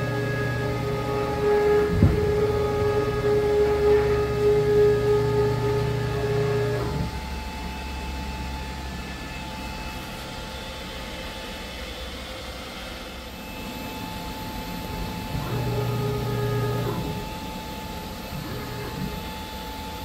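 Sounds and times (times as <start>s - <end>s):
router motor whine: 0.0s - 11.2s, 13.4s - 20.0s
mechanical hum: 0.0s - 20.0s.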